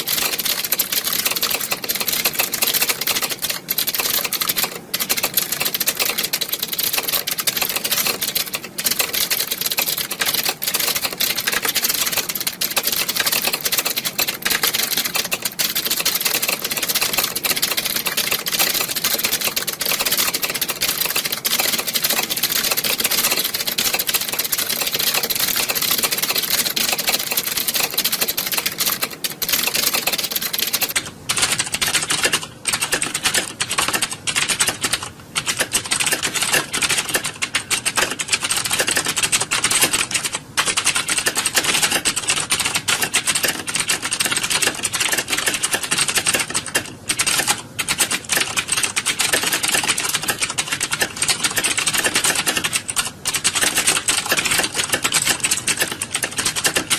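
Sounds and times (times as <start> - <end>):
keyboards typing clatter: 0.0 - 56.9.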